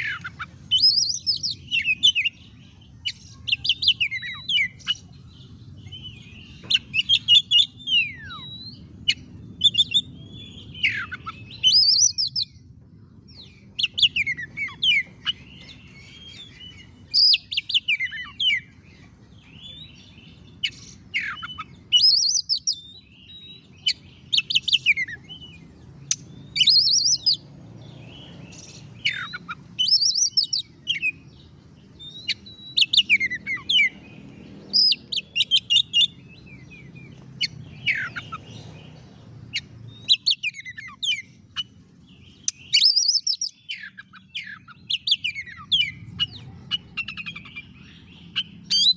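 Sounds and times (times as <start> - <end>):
bird singing: 0.0 - 48.9.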